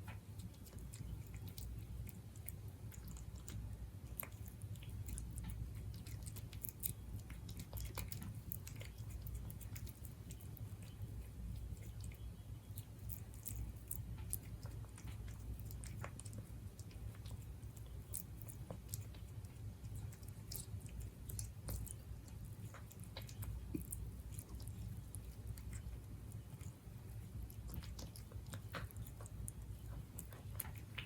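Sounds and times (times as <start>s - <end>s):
cat chewing food: 0.0s - 31.0s
low steady hum: 0.0s - 31.0s.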